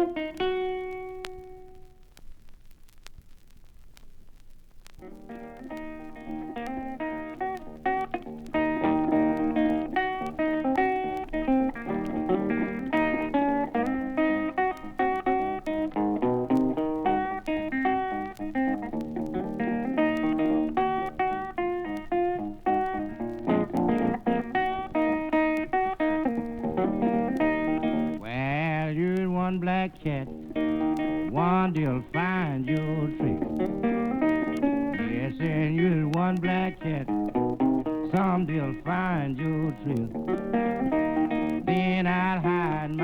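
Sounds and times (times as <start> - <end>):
blues guitar playing: 0.0 - 2.1, 5.0 - 43.0.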